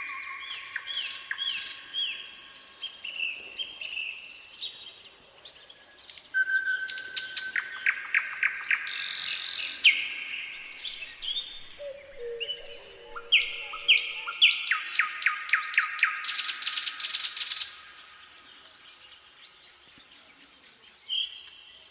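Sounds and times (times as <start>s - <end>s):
nightingale singing: 0.0s - 21.9s.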